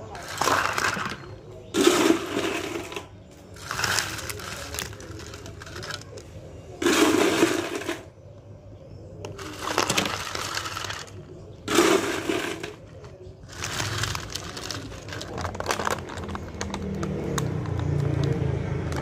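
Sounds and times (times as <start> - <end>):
ice cubes rattling: 0.0 - 6.2, 6.8 - 8.1, 9.4 - 19.0.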